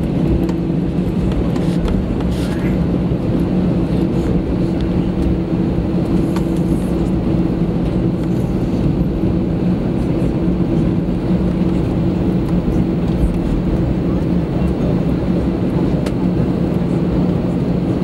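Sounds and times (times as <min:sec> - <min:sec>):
jet engine drone in cabin: 0:00.0 - 0:18.0.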